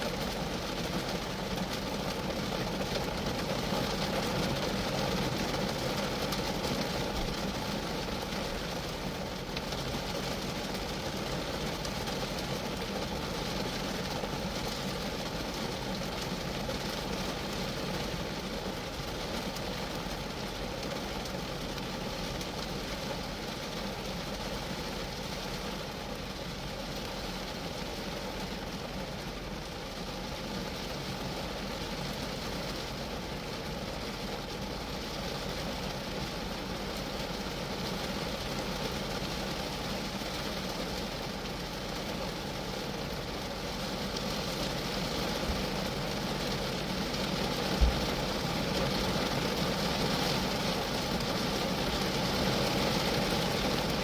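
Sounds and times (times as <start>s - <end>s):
rain on car roof: 0.0s - 54.0s.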